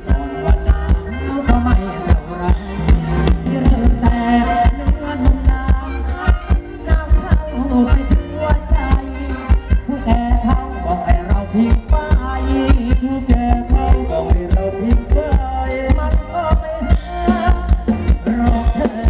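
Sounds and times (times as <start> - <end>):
live band playing folk dance music: 0.0 - 19.0
steady drum beat: 0.0 - 19.0.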